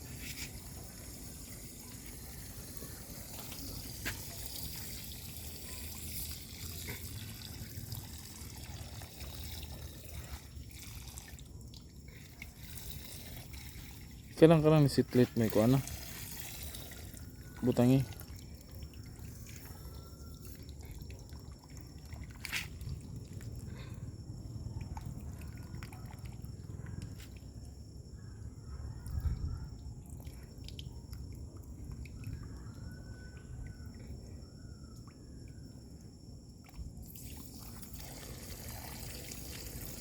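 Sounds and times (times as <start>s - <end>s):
water trickling and dripping: 0.0s - 40.0s.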